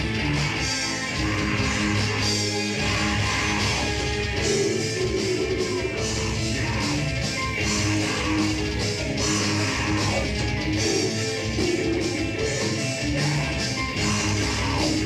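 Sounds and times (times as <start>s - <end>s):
bass: 0.0s - 15.0s
distorted electric guitars: 0.0s - 15.0s
drums with steady beat: 0.0s - 15.0s.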